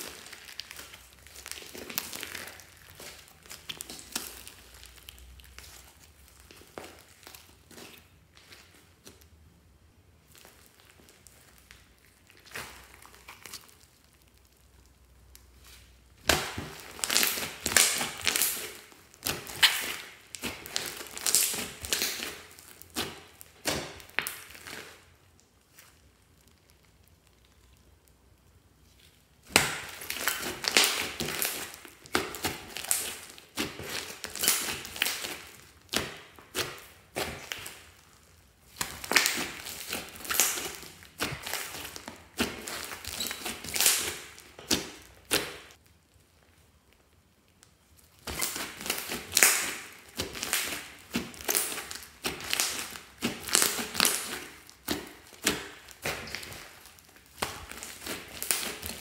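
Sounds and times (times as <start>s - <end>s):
slime squishing with sticky pops: 0.0s - 9.5s, 10.1s - 59.0s.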